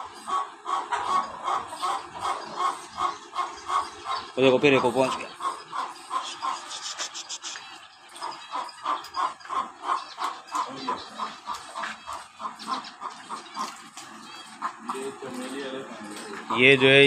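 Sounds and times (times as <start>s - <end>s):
bird chirping: 1.1s - 17.0s.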